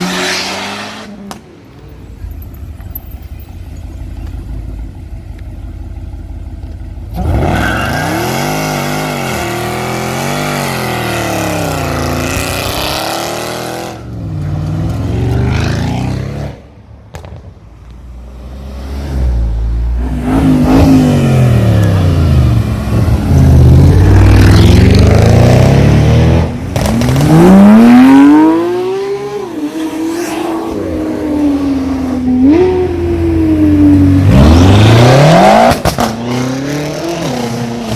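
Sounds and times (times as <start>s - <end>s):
sports car engines revving: 3.4s - 16.6s, 18.1s - 37.9s.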